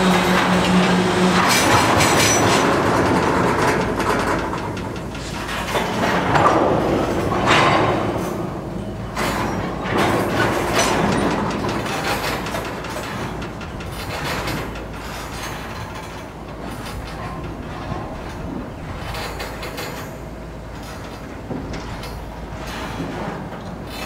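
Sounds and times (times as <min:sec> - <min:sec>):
freight train rumble: 0:00.0 - 0:24.0
metallic knocks and clanks: 0:00.0 - 0:24.0.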